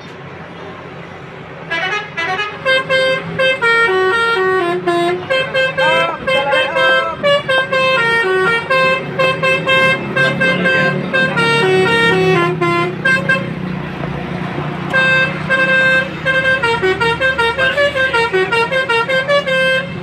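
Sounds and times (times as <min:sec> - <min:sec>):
truck musical horn melody: 0:01.7 - 0:13.9, 0:14.8 - 0:20.0.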